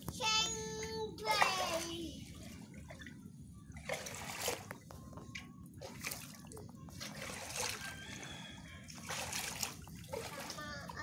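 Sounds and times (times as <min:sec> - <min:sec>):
pond water splashing and trickling: 0:00.0 - 0:11.0
soft water swishes: 0:00.6 - 0:11.0.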